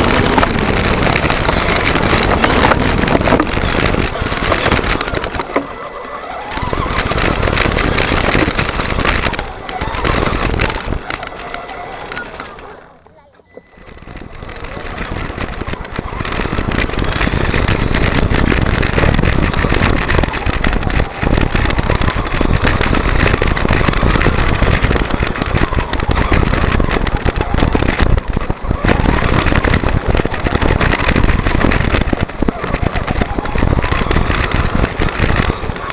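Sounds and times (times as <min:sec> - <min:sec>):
tyres crunching on gravel: 0:00.0 - 0:13.0, 0:13.7 - 0:35.9
rc truck motor running: 0:00.0 - 0:35.9
stones and chassis rattling: 0:00.0 - 0:35.9.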